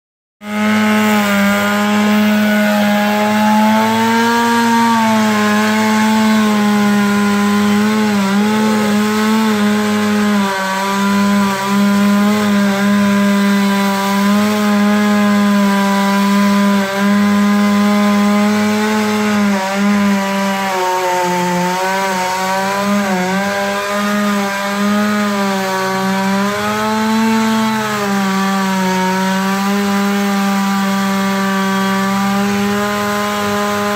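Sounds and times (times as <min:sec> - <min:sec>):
chainsaw cutting wood: 0:00.4 - 0:33.9.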